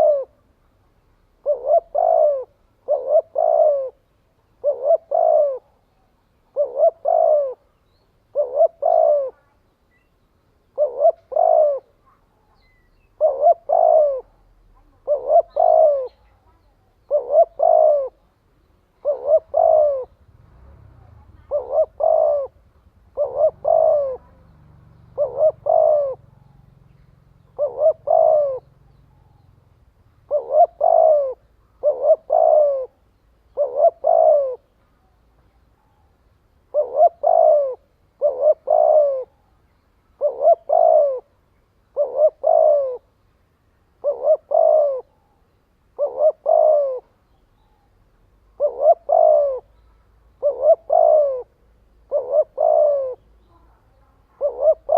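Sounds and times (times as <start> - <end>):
dove cooing: 0.0 - 9.7, 10.5 - 54.9.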